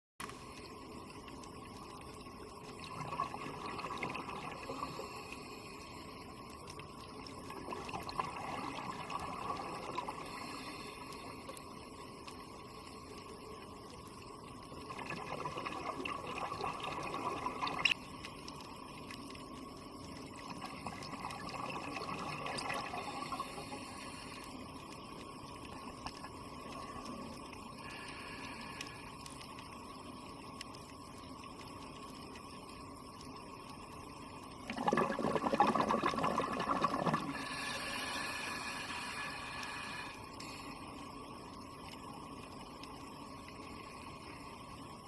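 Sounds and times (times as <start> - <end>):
underwater watery hiss: 0.3 - 45.0.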